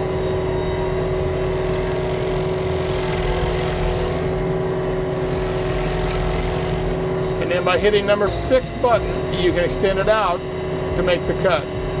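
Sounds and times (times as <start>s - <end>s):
stump grinder grinding: 0.0s - 11.6s
loader engine at high idle: 0.0s - 12.0s.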